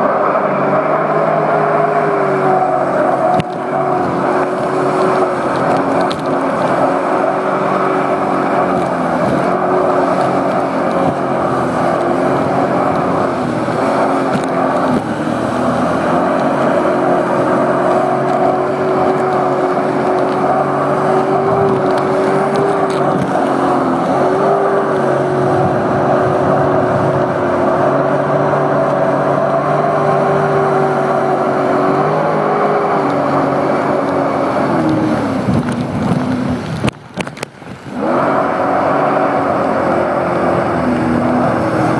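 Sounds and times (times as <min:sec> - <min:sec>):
watercraft engine running: 0:00.0 - 0:41.9.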